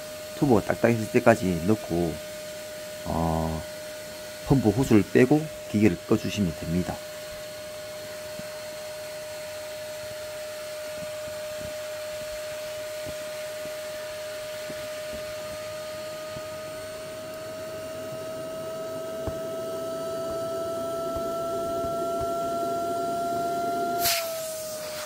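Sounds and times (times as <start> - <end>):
electric air pump whining: 0.0 - 25.0.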